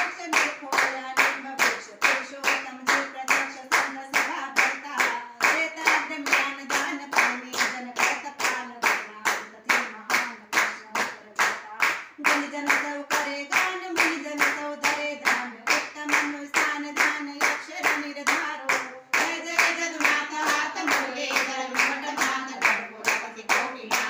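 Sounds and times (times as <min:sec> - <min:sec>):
rhythmic hand clapping: 0:00.0 - 0:24.0
women singing in unison: 0:00.0 - 0:24.0.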